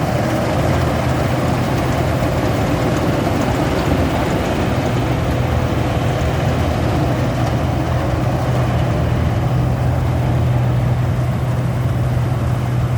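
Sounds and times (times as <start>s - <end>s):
harvester engine droning: 0.0s - 12.9s.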